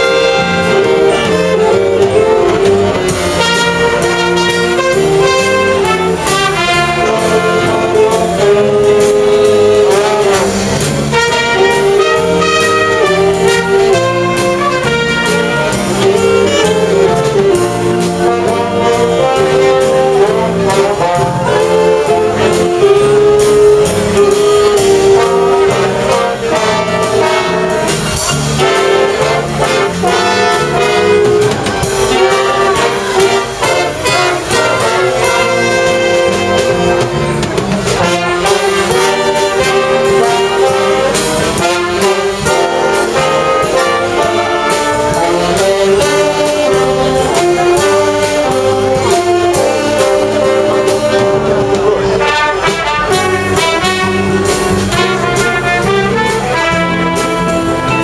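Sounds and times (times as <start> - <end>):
jazz big band playing: 0.0 - 58.0.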